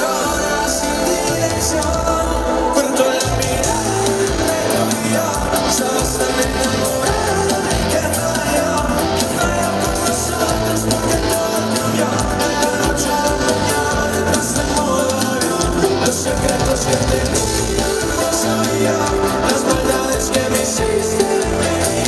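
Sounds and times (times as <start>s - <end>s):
live band playing latin pop: 0.0s - 22.0s
man singing: 0.0s - 22.0s.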